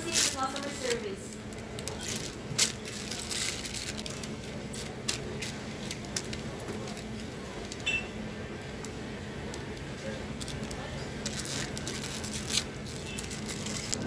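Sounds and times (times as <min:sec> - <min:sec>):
plastic packets crinkling: 0:00.0 - 0:07.9, 0:09.5 - 0:14.0
freezer low hum: 0:00.0 - 0:14.0.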